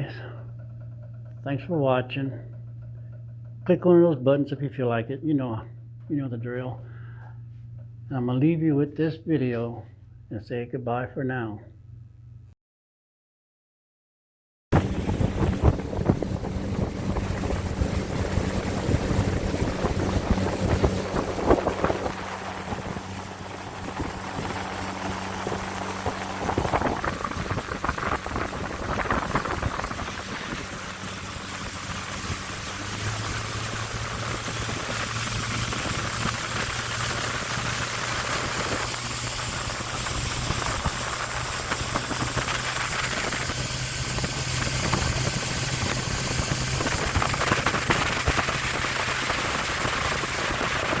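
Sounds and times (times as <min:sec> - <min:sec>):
machine low hum: 0:00.0 - 0:12.6, 0:14.7 - 0:51.0.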